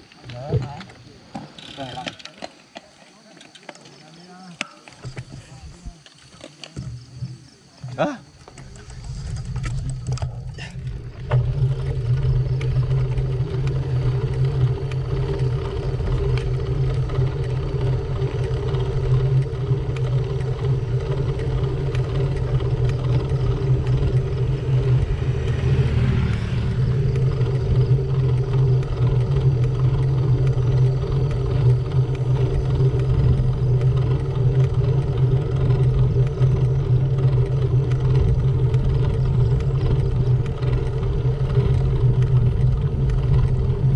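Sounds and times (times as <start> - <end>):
road rumble: 0.0 - 43.9.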